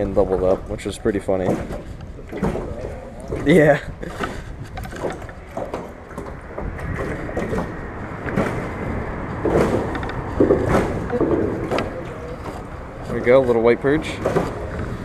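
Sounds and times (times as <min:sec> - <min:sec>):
knocks and rustles in boat: 0:00.0 - 0:15.0
traffic rumble on bridge: 0:00.0 - 0:15.0.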